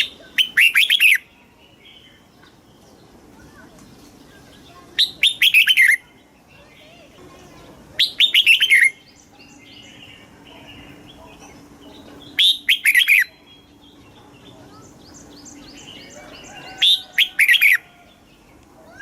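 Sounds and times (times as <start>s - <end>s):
bird singing downward phrases: 0.0s - 19.0s
faint bird chirps: 0.0s - 19.0s.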